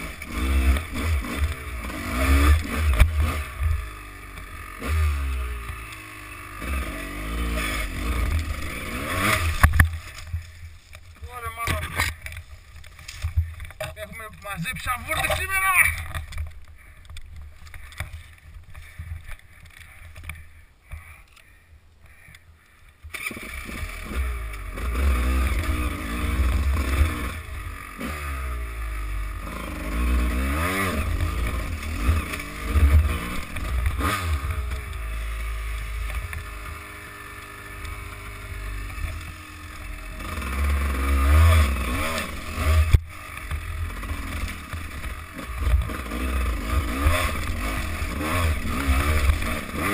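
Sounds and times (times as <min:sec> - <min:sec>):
dirt bike engine revving: 0:00.0 - 0:20.4, 0:23.1 - 0:49.9.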